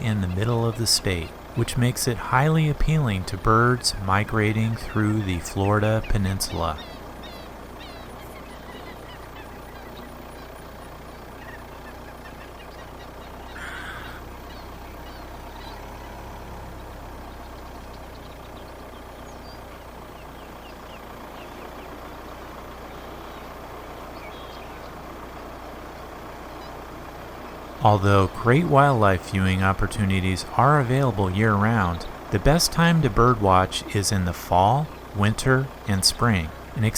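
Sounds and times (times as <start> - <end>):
bird chirps: 0.0 - 36.9
car driving slowly: 0.0 - 36.9.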